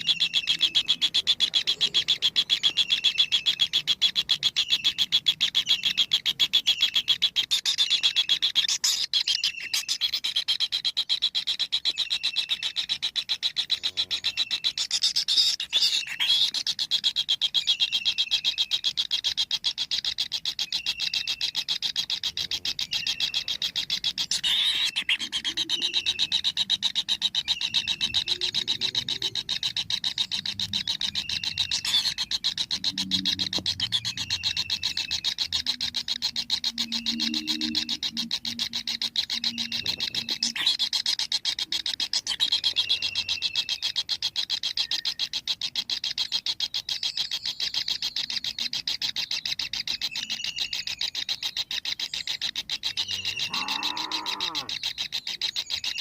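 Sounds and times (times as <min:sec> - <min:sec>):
nestlings chirping: 0:00.0 - 0:56.0.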